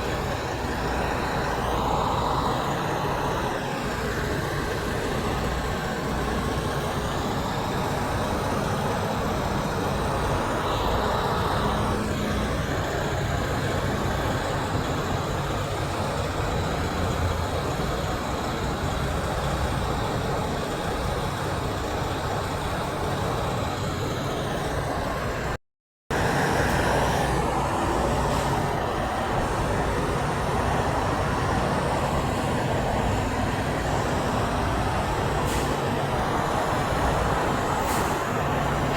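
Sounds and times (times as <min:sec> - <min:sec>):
heavy trucks passing: 0:00.0 - 0:38.9
road traffic passing: 0:00.0 - 0:38.9.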